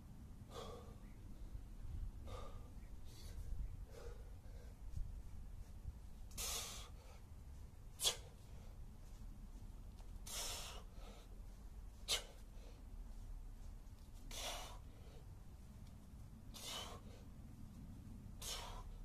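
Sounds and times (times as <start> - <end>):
man breathing hard: 0.4 - 15.5, 16.4 - 17.4, 18.3 - 19.0.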